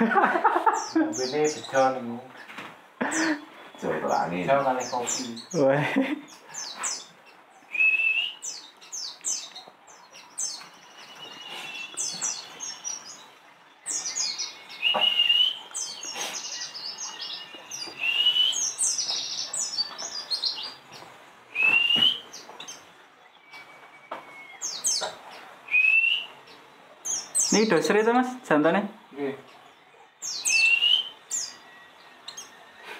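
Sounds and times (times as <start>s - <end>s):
birds chirping and twittering: 0.0s - 32.9s.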